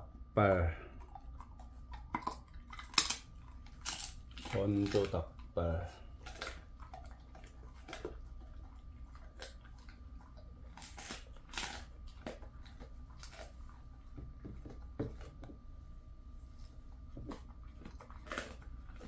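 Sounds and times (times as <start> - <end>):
dog crunching a treat: 0.8 - 15.7, 16.7 - 19.0.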